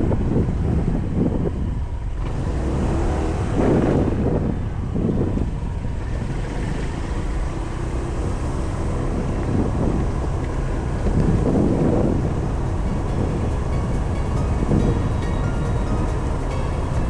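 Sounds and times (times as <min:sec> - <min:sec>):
road noise: 0:01.8 - 0:17.0.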